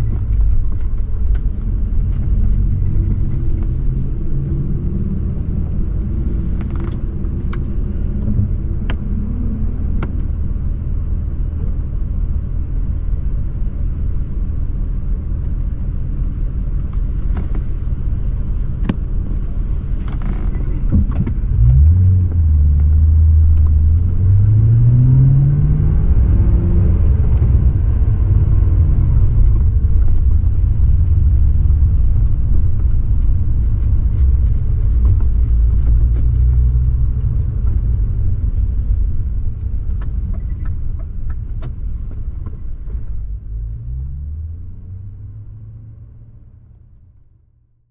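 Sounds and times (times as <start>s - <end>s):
car engine rumbling: 0.0s - 47.9s.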